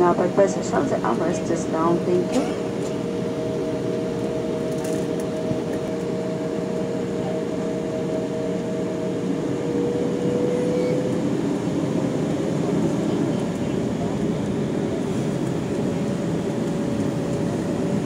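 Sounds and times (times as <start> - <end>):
faint high engine whine: 0.0 - 18.0
jet engines humming: 0.0 - 18.0.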